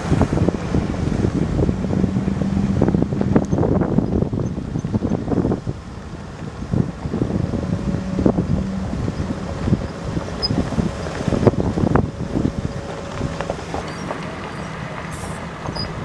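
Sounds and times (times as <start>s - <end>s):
vehicle engine and road rumble: 0.0s - 16.0s
knocks and rattles over bumps: 0.1s - 16.0s.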